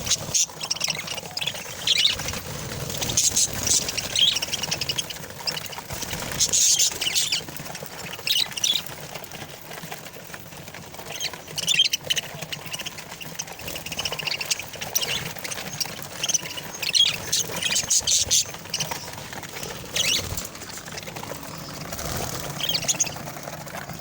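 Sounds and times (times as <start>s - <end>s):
parrots chirping and squawking: 0.0s - 24.0s.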